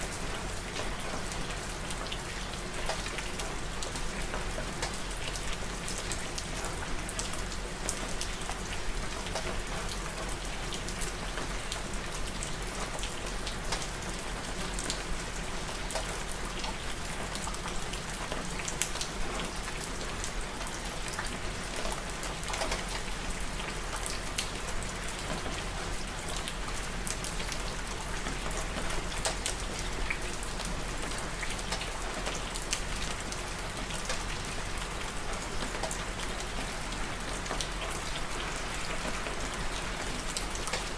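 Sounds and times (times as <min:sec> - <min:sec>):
rain falling on a surface: 0:00.0 - 0:40.9.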